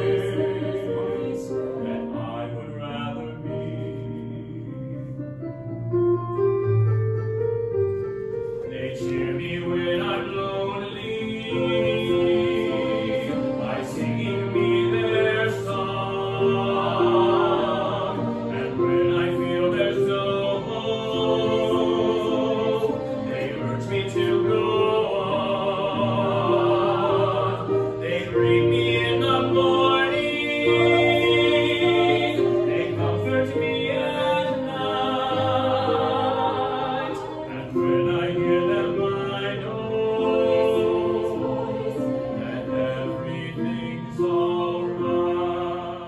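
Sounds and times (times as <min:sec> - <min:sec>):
two men singing: 0:00.0 - 0:05.0, 0:08.7 - 0:46.0
piano: 0:00.0 - 0:46.0.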